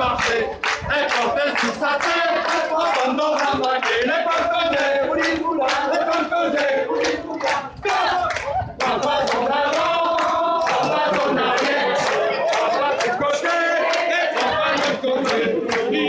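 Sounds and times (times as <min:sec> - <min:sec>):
group of voices singing: 0:00.0 - 0:16.0
handclapping on a beat: 0:00.0 - 0:16.0.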